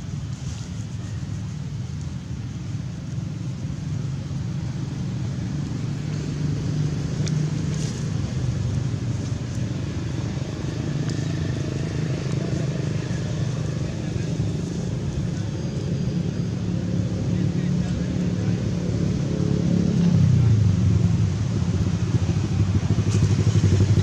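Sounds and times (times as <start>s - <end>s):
engine running low rumble: 0.0s - 24.0s.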